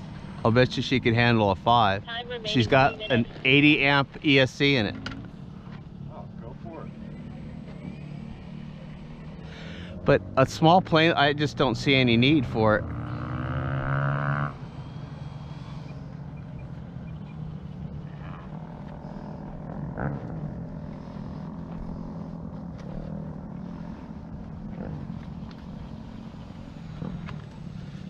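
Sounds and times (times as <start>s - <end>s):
model plane motor humming: 4.8s - 28.0s.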